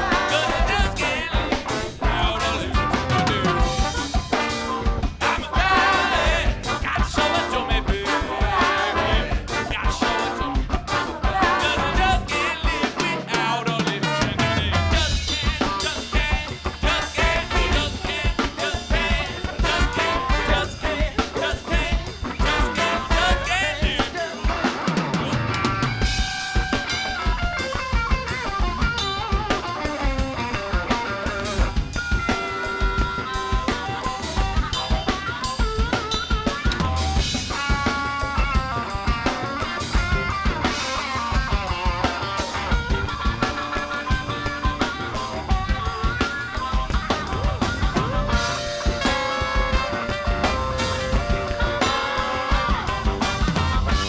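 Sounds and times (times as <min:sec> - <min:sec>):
drum kit snare and rimshots: 0:00.0 - 0:54.0
funk band playing: 0:00.0 - 0:54.0.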